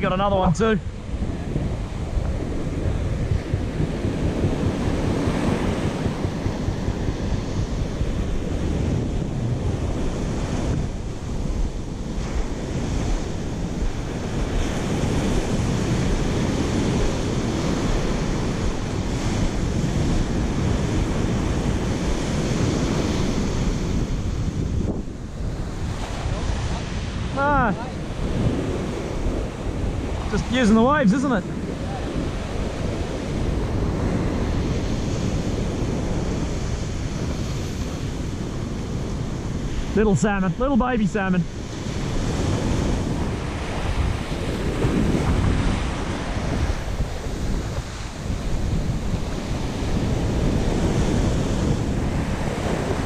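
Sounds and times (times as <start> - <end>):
surf breaking on beach: 0.0 - 53.0
wind buffeting microphone: 0.0 - 53.0.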